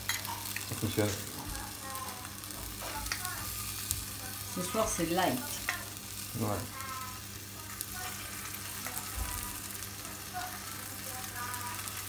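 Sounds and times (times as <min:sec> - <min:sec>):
apple pieces sizzling in a pan: 0:00.0 - 0:12.0.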